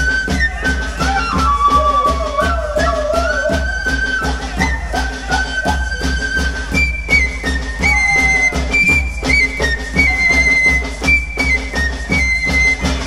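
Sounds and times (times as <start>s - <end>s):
high flute melody: 0.0s - 13.0s
steady drum beat: 0.0s - 13.0s.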